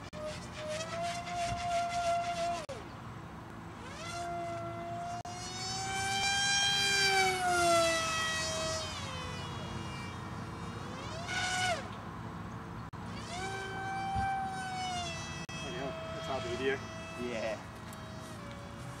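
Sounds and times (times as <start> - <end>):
model jet motor whine: 0.0 - 2.9, 3.8 - 12.0, 13.0 - 19.0.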